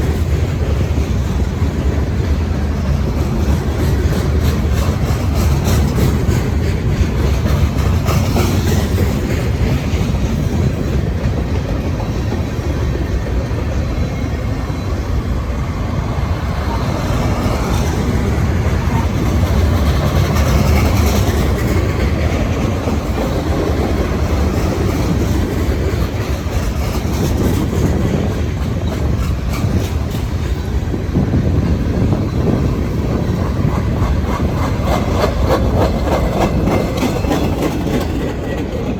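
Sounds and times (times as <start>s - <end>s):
wheels clicking over rail joints: 0.0s - 14.9s, 16.3s - 38.9s
steel wheels rumbling on rail: 0.0s - 38.9s.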